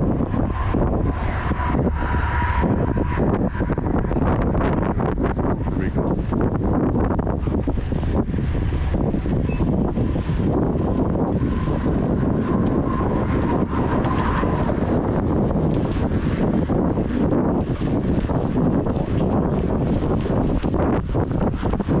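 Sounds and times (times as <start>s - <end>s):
low rumble: 0.0s - 22.0s
wind on microphone: 0.0s - 22.0s.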